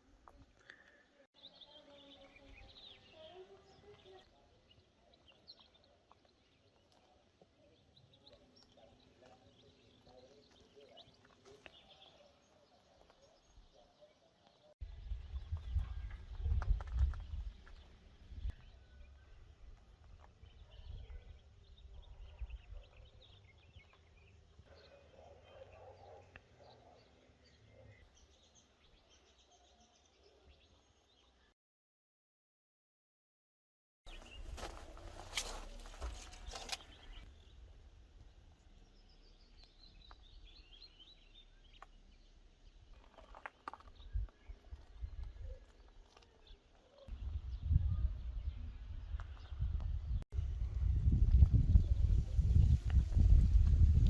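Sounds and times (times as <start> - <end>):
birds chirping faintly: 0.0 - 31.6, 34.1 - 50.2.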